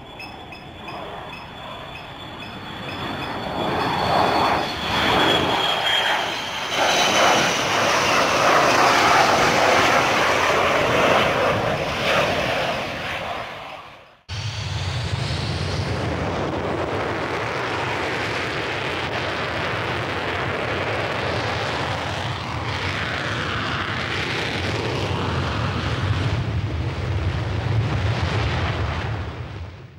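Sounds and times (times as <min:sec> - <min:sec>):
jet engine roaring: 0:00.0 - 0:29.8.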